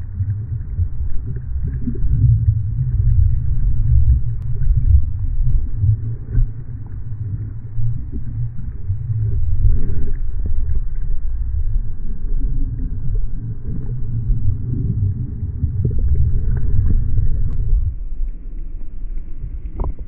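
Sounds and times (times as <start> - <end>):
underwater rumble of waves: 0.0 - 20.0.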